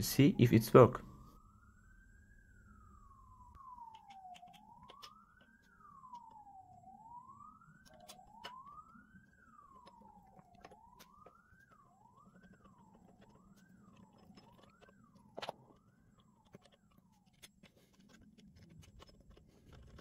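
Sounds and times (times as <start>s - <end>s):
faint wailing siren: 0.0s - 20.0s.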